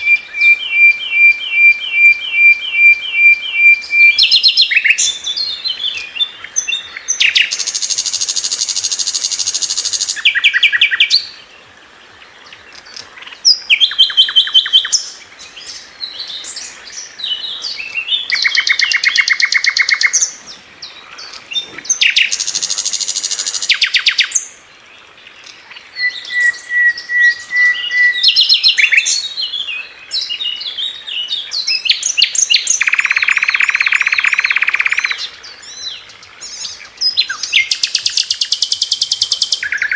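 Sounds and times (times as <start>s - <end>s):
flycatcher chirping song: 0.0s - 11.5s, 12.4s - 24.5s, 25.4s - 39.9s.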